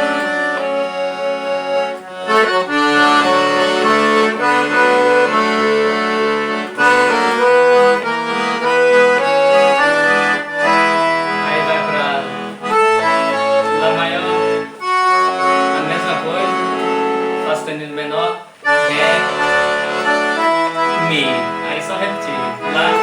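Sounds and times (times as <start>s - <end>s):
accordion melody: 0.0s - 23.0s.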